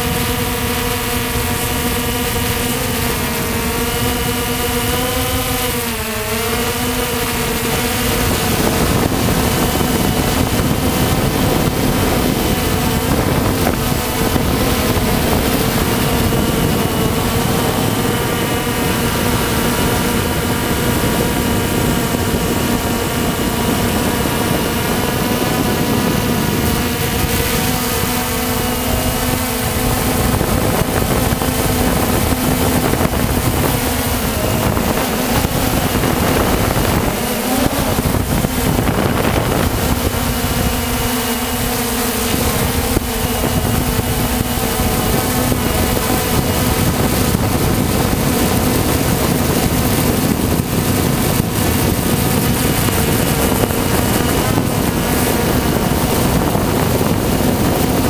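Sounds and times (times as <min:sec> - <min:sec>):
drone motors buzzing: 0:00.0 - 0:58.0
wind rushing over microphone: 0:00.0 - 0:58.0.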